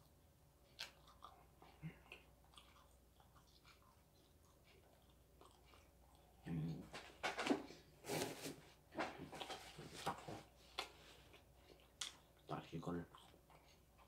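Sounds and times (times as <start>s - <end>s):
person chewing dried squid: 0.0s - 6.9s, 9.0s - 14.0s.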